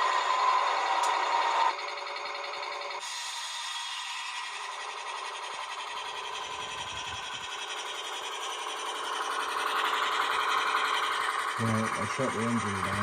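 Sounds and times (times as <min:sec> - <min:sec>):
model locomotive engine hum: 0:00.0 - 0:13.0.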